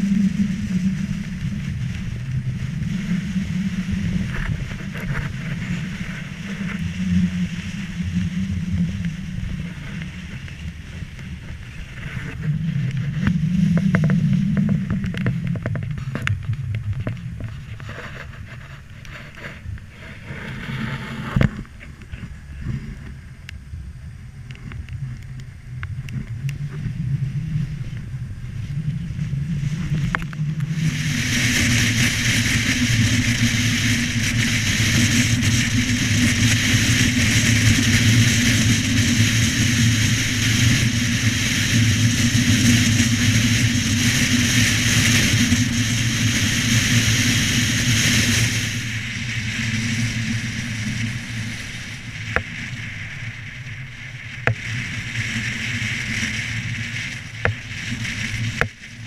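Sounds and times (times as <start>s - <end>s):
engine and road hum: 0.0s - 59.0s
wind and tyres rushing: 0.0s - 59.0s.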